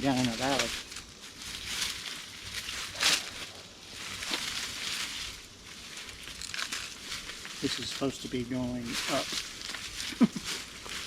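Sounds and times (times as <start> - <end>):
rustling in dry leaves: 0.0 - 11.0.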